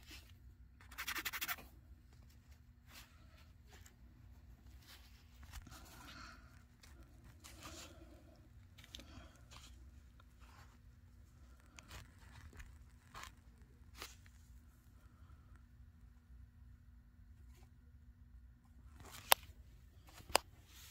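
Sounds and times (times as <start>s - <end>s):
low room hum: 0.0s - 20.9s.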